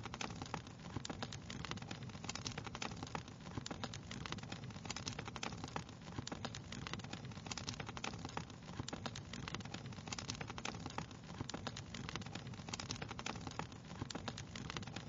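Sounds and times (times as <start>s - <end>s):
wood fire crackling and popping: 0.0s - 15.0s
low rumble of flames: 0.1s - 15.0s.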